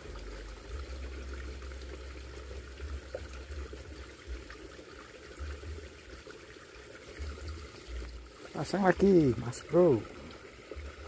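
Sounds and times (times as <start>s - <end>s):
stream trickling: 0.0s - 11.0s.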